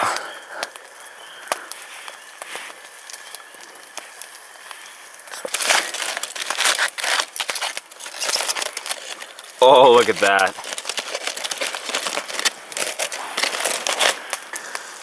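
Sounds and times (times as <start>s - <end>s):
faint scattered crackles: 0.0s - 15.0s
foil packet crinkling: 1.6s - 15.0s.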